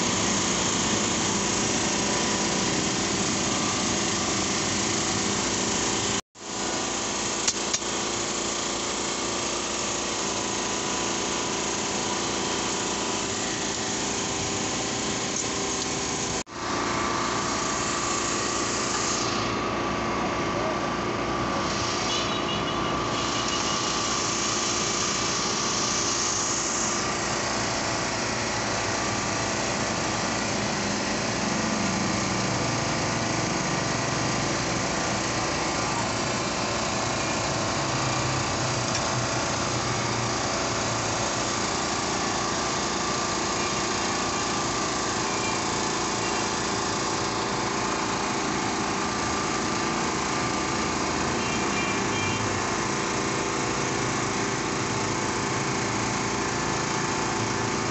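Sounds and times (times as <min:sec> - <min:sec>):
machine droning: 0:00.0 - 0:57.9.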